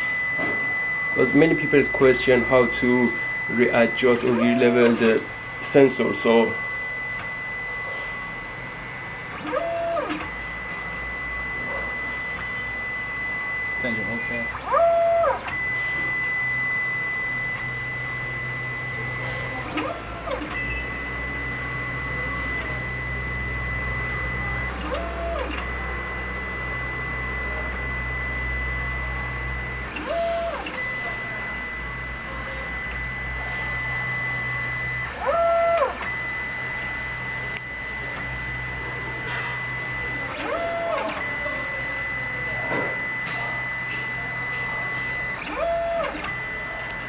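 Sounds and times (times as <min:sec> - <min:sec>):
low machine hum: 0:00.0 - 0:47.0
steady high whine: 0:00.0 - 0:47.0
stepper motors whining: 0:00.0 - 0:47.0.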